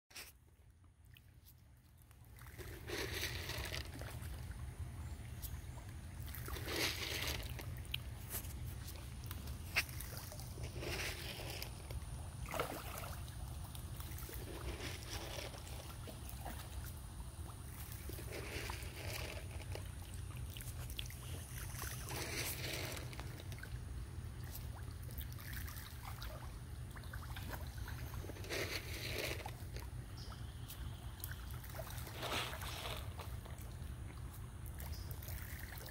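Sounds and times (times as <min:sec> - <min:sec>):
fish splashing in water: 0:01.1 - 0:35.9.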